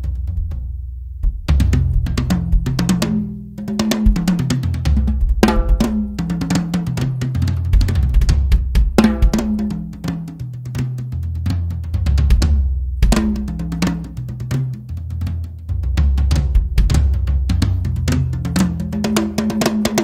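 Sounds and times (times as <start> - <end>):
drum kit groove: 0.0 - 20.0.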